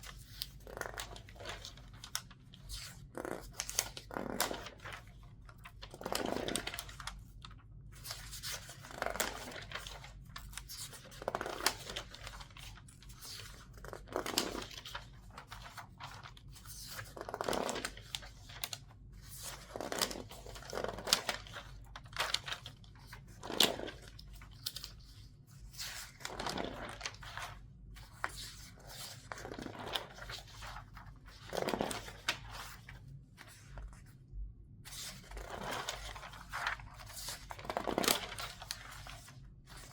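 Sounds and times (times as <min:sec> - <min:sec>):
newspaper pages rustling: 0:00.0 - 0:34.2, 0:34.9 - 0:39.9.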